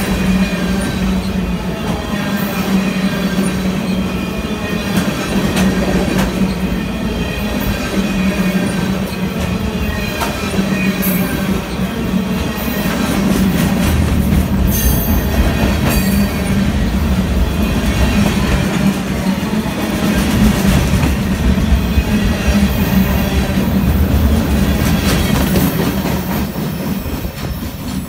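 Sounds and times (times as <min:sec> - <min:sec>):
freight train rolling past: 0:00.0 - 0:28.0
steel wheels running on rail: 0:00.0 - 0:28.0.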